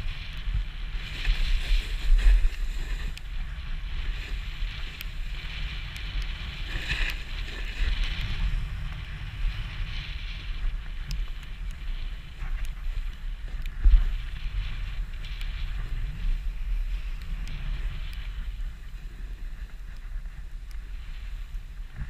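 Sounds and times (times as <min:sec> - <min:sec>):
skis scraping over snow: 0:00.0 - 0:22.0
wind buffeting microphone: 0:00.0 - 0:22.0.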